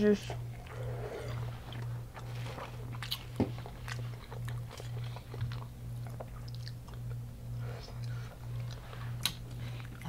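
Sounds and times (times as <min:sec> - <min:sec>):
low pulsing hum: 0:00.0 - 0:10.0
chewing crunchy fried food: 0:00.3 - 0:10.0.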